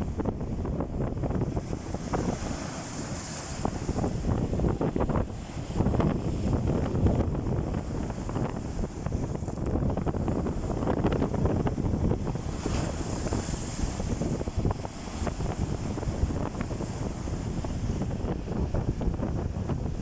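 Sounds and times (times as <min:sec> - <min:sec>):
waves washing onto shore: 0:00.0 - 0:20.0
wind buffeting microphone: 0:00.0 - 0:20.0.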